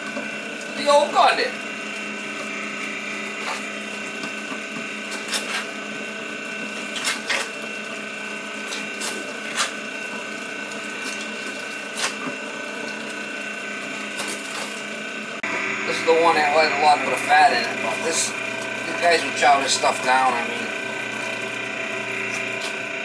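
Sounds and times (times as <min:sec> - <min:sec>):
electric meat grinder humming: 0:00.0 - 0:23.0.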